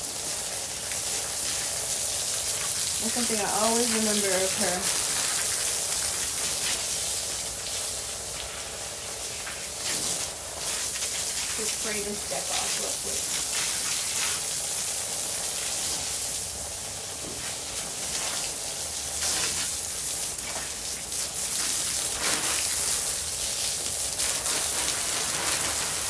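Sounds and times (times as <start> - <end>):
hose spraying water on deck: 0.0 - 26.0.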